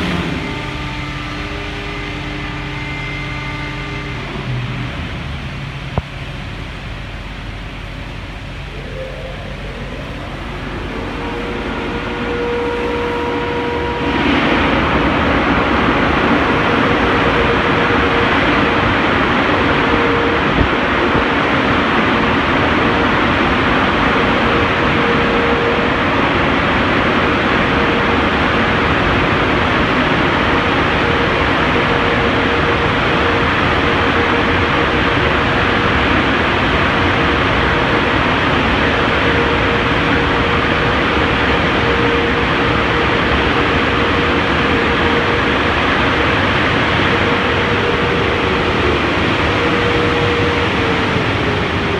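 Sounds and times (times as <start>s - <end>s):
blower dryers rushing air: 0.0s - 51.9s
fan whine: 0.0s - 51.9s.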